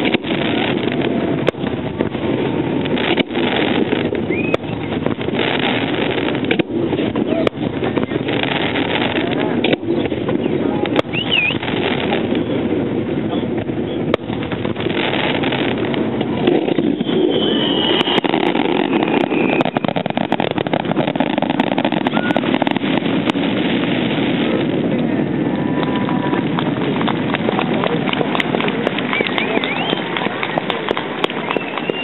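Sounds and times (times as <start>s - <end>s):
crowd murmur: 0.0s - 32.0s
distant fireworks crackling: 0.0s - 32.0s.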